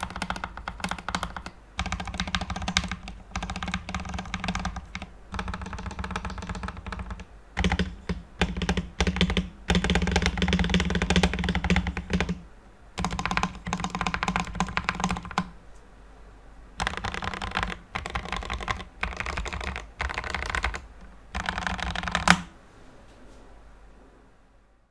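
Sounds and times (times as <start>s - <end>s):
mechanical keyboard typing: 0.0s - 12.4s, 13.0s - 15.6s, 16.8s - 22.5s.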